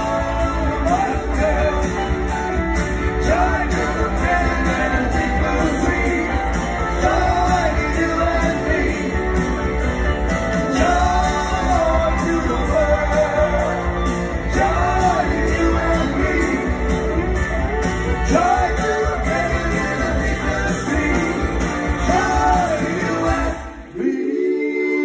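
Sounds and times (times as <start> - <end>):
lead singing: 0.0 - 25.0
live rock band: 0.0 - 25.0.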